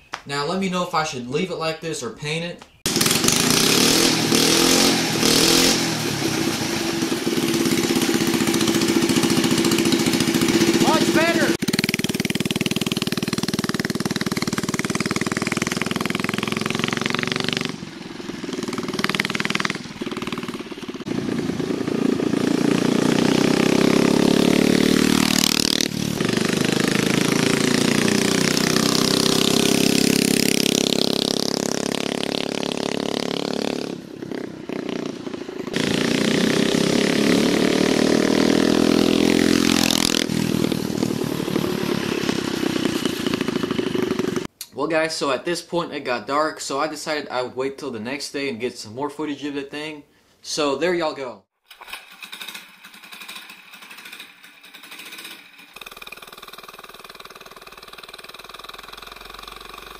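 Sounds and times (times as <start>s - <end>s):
scooter engine revving: 2.8s - 44.5s, 51.8s - 59.9s.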